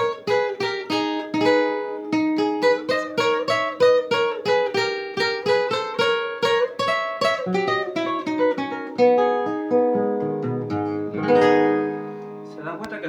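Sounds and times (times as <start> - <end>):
nylon-string guitar solo: 0.0 - 13.0.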